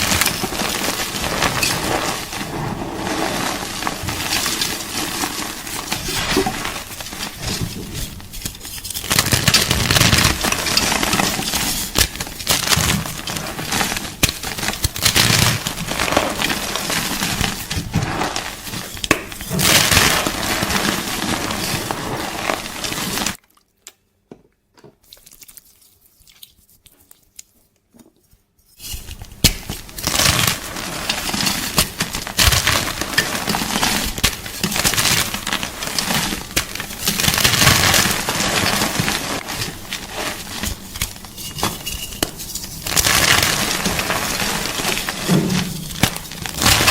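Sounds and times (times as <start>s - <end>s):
chalk crunching and crackling: 0.0s - 23.4s, 28.8s - 46.9s.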